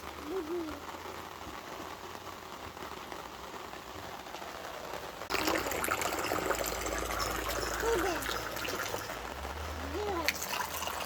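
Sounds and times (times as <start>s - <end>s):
steady watery hiss: 0.0s - 11.0s.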